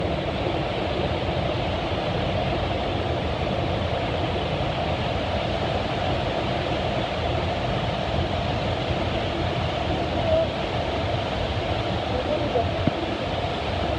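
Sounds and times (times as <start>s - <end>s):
waterfall roaring: 0.0s - 13.9s.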